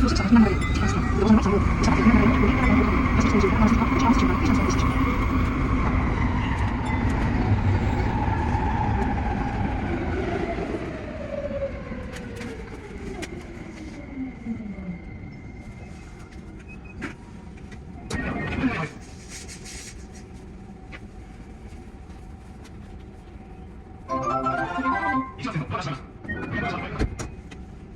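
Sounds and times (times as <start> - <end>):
train running noise: 0.0 - 27.9.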